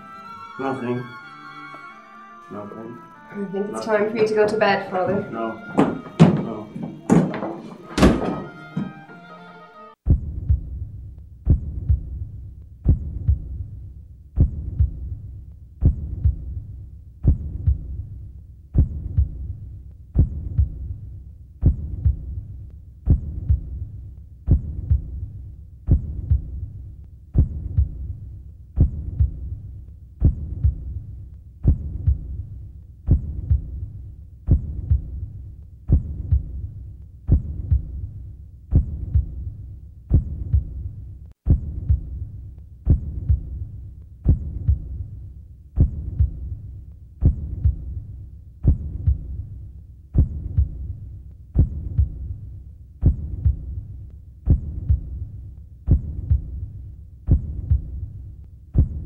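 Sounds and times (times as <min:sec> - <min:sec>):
slow heartbeat: 0:10.0 - 0:59.0.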